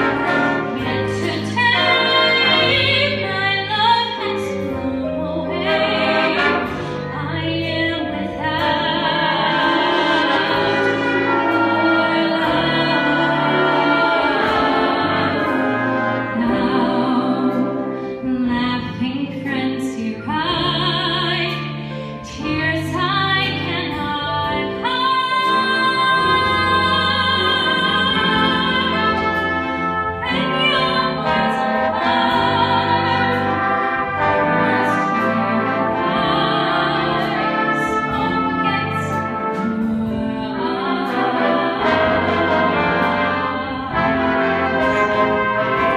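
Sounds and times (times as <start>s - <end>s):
jazz band playing: 0.0s - 45.9s.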